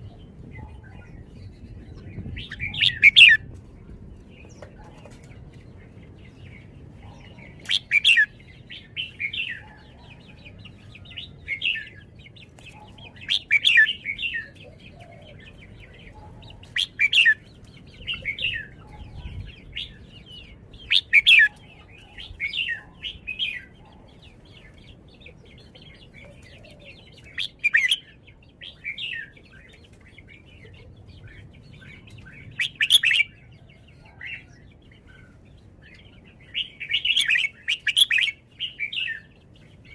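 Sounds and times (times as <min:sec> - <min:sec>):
bird singing bright phrases: 0:00.0 - 0:39.9.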